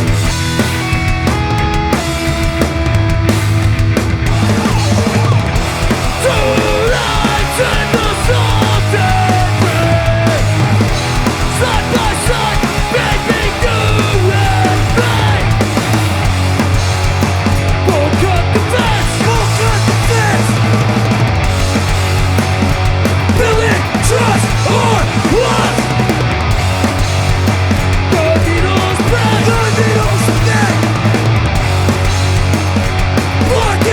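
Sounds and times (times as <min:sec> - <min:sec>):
hardcore punk band playing: 0:00.0 - 0:33.9.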